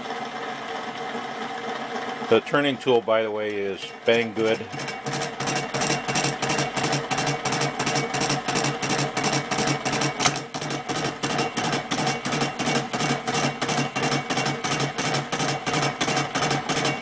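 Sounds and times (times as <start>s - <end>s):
lathe motor and gear hum: 0.0s - 17.0s
lathe cutting tool ticking: 1.4s - 17.0s.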